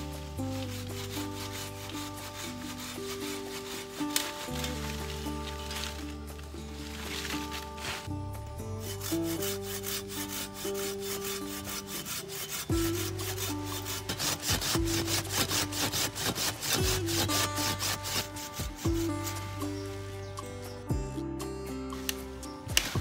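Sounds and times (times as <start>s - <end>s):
hand saw cutting wood: 0.0s - 20.2s.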